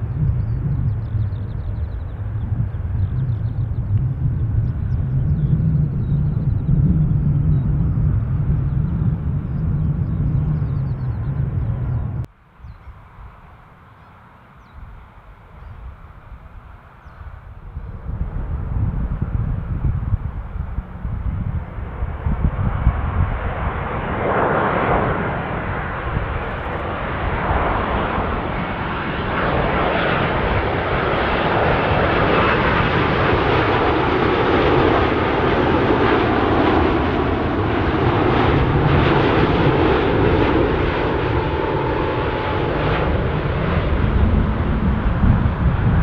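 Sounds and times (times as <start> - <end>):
wind buffeting microphone: 0.0 - 13.4, 14.6 - 46.0
jet airliner engine roar: 0.0 - 46.0.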